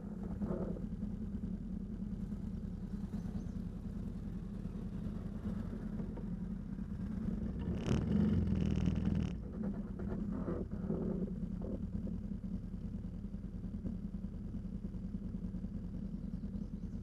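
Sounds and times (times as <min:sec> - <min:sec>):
atv engine humming: 0:00.0 - 0:17.0
engine whine: 0:00.0 - 0:17.0.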